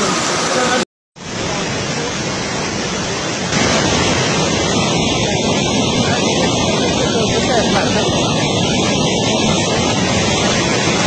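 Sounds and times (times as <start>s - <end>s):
rushing river water: 0.0s - 11.0s.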